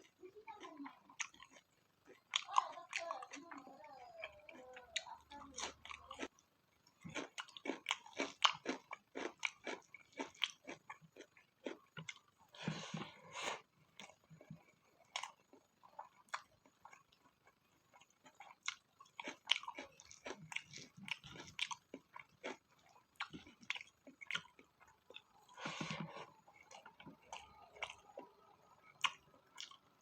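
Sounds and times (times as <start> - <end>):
close-up chewing and crunching: 0.0 - 30.0.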